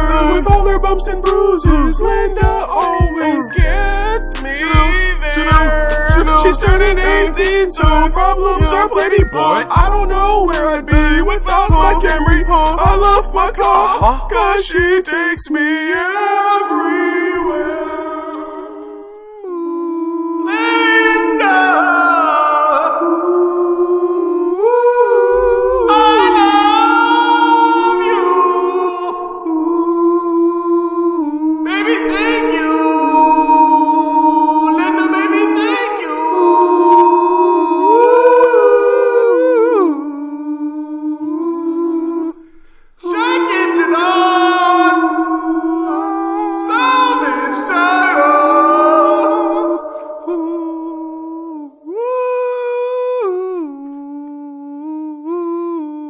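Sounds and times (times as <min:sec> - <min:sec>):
layered wordless singing: 0:00.0 - 0:56.0.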